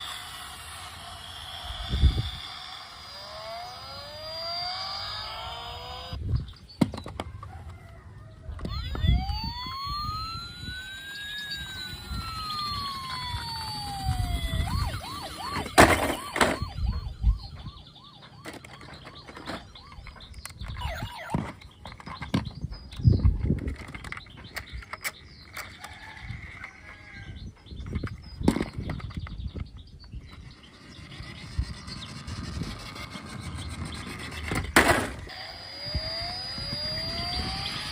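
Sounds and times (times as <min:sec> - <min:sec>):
toy sirens wailing: 0:00.0 - 0:06.2, 0:07.4 - 0:22.4, 0:23.2 - 0:28.2, 0:30.2 - 0:37.9.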